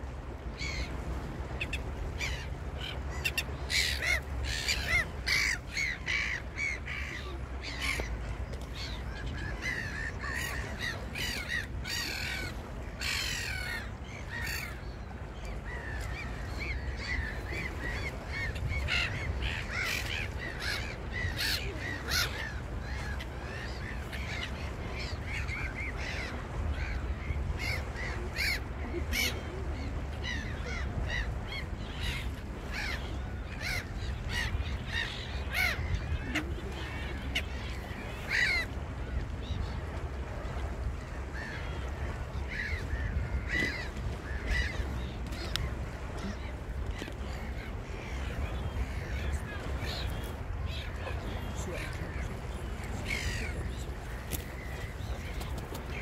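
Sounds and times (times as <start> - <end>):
low beach rumble: 0.0 - 56.0.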